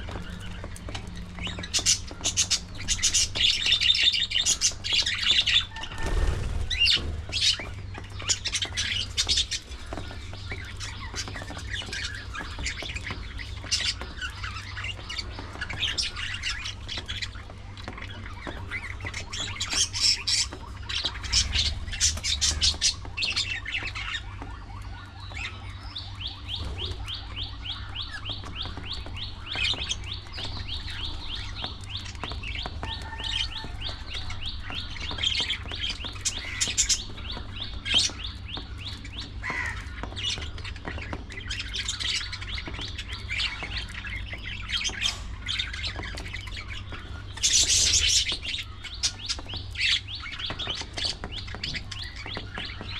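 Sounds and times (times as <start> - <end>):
budgerigars chirping and squawking: 0.0 - 52.9.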